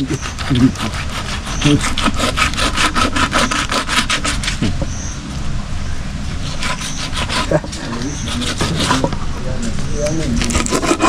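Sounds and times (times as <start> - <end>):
rhythmic scraping strokes: 0.0 - 4.9, 6.4 - 11.0.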